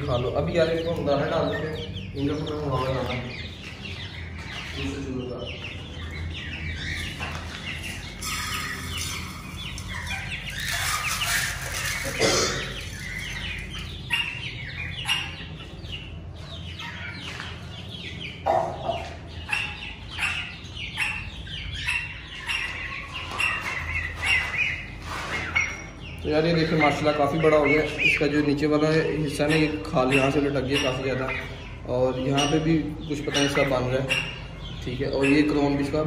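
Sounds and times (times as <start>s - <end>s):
chickens clucking: 0.0s - 36.0s
chicks peeping: 0.0s - 36.0s.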